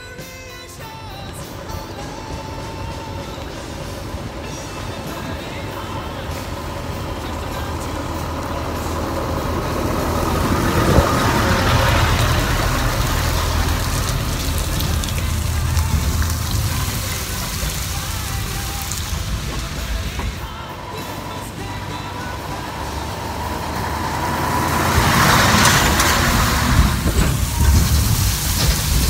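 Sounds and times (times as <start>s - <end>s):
truck engine rumble: 0.0s - 29.0s.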